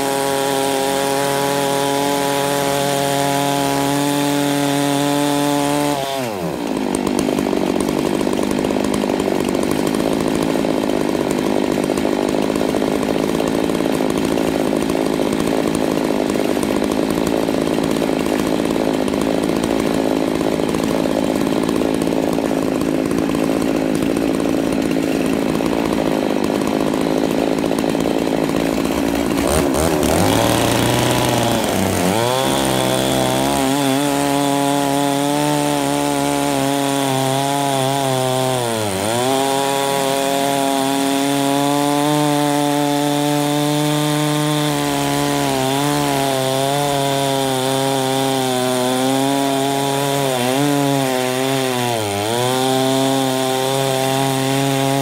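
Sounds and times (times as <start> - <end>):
chainsaws cutting log: 0.0 - 55.0.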